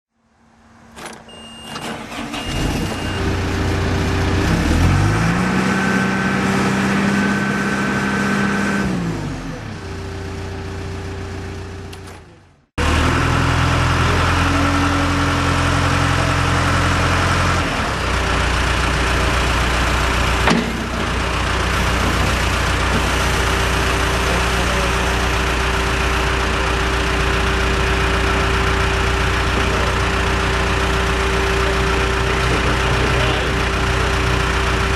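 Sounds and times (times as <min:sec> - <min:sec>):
diesel engine starting and running: 0:00.2 - 0:34.9.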